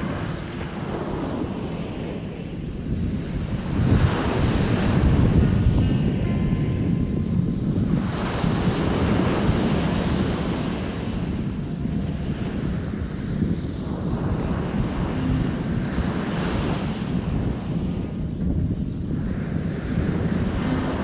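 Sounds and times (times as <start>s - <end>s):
small waves washing up beach: 0.0s - 21.0s
wind buffeting microphone: 0.0s - 21.0s.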